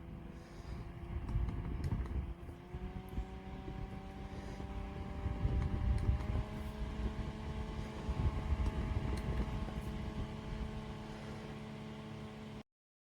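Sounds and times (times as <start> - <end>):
fan motor hum: 0.0 - 12.6
rumble of moving air: 0.0 - 12.6.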